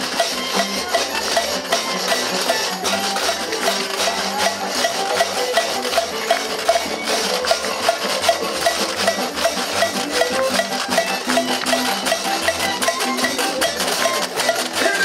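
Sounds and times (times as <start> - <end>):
steady percussive tick: 0.0 - 15.0
string band music: 0.0 - 15.0.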